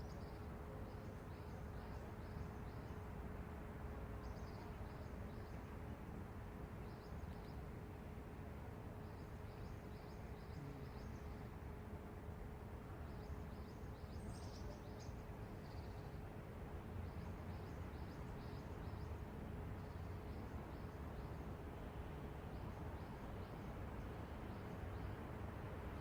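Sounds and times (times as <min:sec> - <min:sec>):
distant city traffic rumble: 0:00.0 - 0:26.0.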